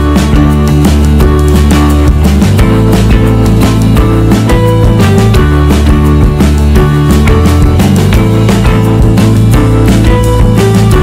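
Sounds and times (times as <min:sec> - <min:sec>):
loud music with steady beat: 0:00.0 - 0:11.0.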